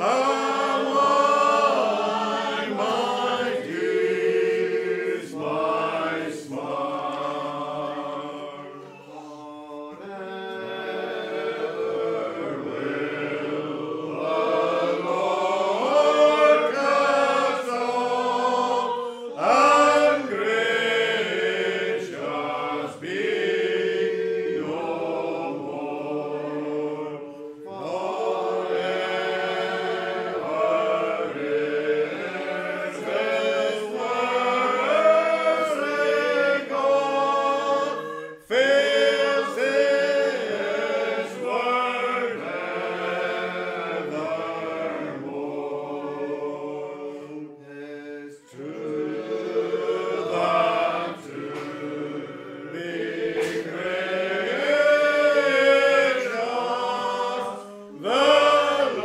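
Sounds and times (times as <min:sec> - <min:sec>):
congregation singing unaccompanied: 0:00.0 - 0:59.0.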